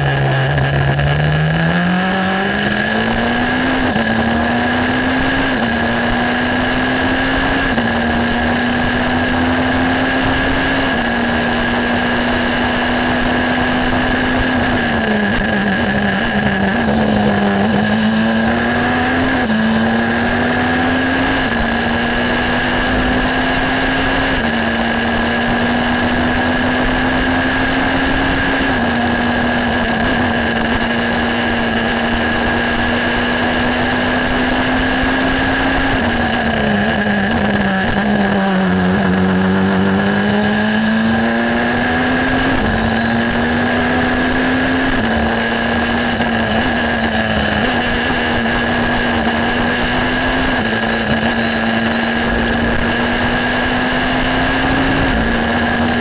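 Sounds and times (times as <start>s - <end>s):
racing car engine shifting gears: 0.0s - 56.0s.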